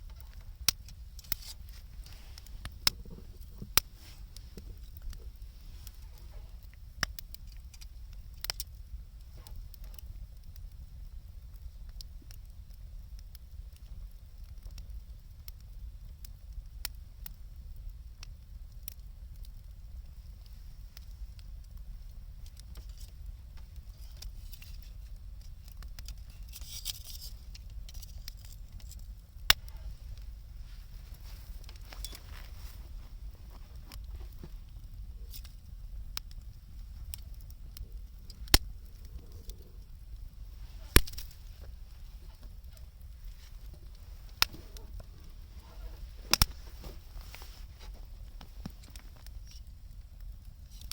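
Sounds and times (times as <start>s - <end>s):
steady low rumble: 0.0s - 26.6s, 27.3s - 50.7s
wood fire crackling and popping: 0.0s - 50.9s.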